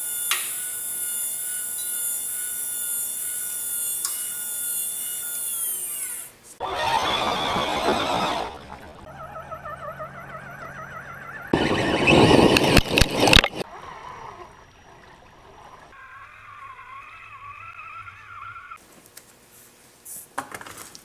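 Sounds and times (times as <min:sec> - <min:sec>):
electric motors and gears whining: 0:00.0 - 0:18.9.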